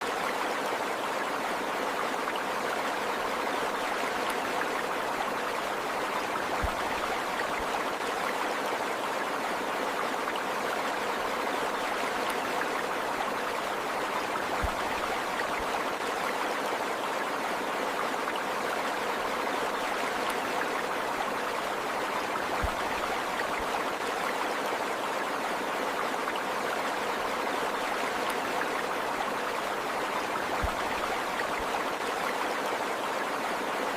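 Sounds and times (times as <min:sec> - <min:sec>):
running water flowing: 0:00.0 - 0:33.9.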